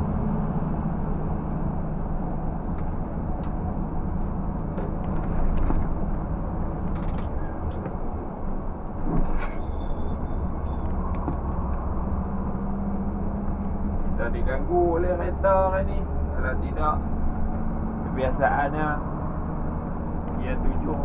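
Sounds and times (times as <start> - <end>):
diesel truck engine under load: 0.0 - 21.0.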